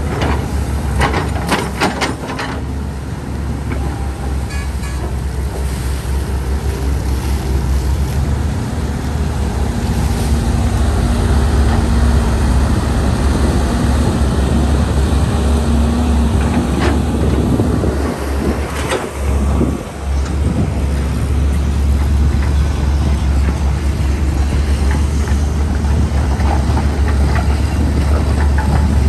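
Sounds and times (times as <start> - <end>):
excavator diesel engine rumbling: 0.0 - 29.0.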